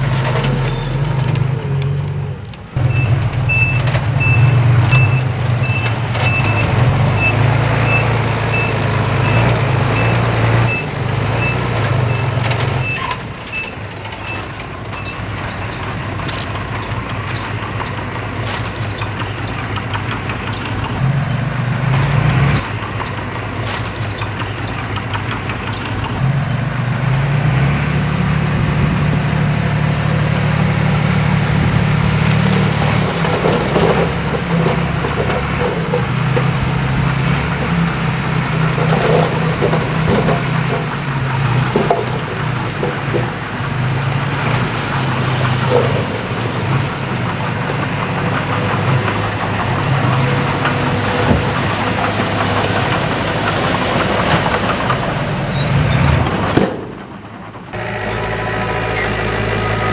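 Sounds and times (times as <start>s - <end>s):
diesel earthmover engine running: 0.0s - 59.9s.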